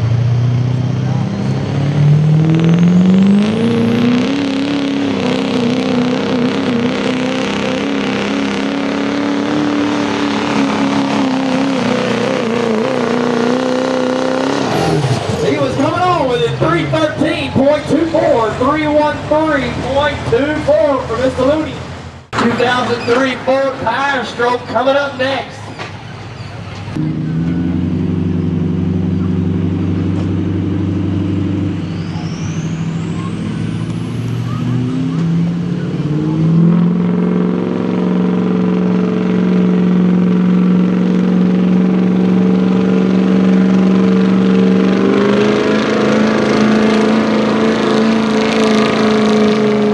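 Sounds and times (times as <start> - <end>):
diesel truck engine at full throttle: 0.0 - 49.9.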